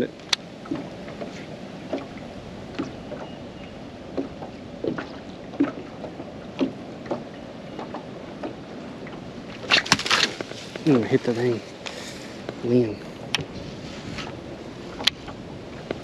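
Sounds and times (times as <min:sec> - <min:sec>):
wash of wind and water: 0:00.0 - 0:16.0
waves slapping boat hull: 0:00.0 - 0:16.0.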